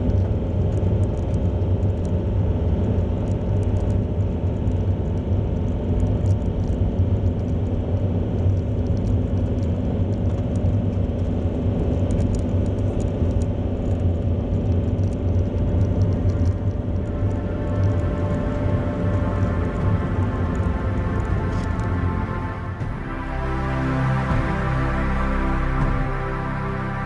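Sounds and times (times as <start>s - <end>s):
vehicle rumble: 0.0s - 27.0s.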